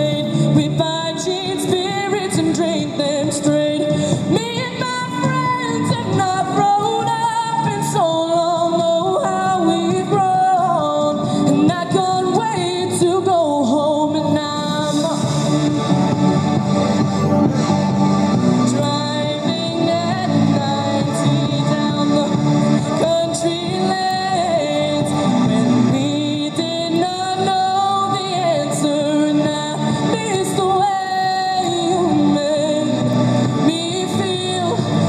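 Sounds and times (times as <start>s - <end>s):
woman singing into a microphone: 0.0s - 16.2s, 18.5s - 35.0s
musical accompaniment: 0.0s - 35.0s.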